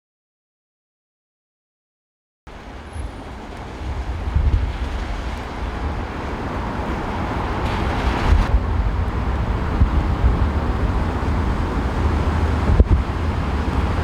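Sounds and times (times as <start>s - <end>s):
wind buffeting microphone: 2.5s - 14.0s.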